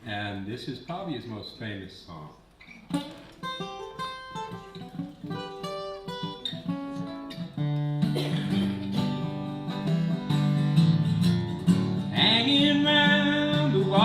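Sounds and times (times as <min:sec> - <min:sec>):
acoustic guitar playing: 0:02.6 - 0:14.0.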